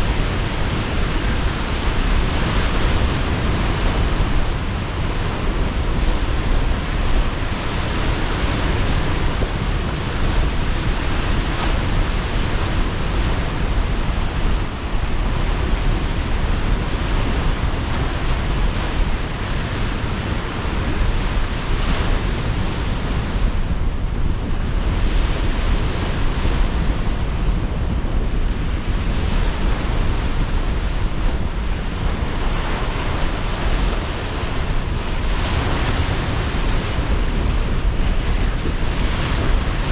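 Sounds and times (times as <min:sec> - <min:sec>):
sea surf breaking: 0:00.0 - 0:39.9
wind buffeting microphone: 0:00.0 - 0:39.9.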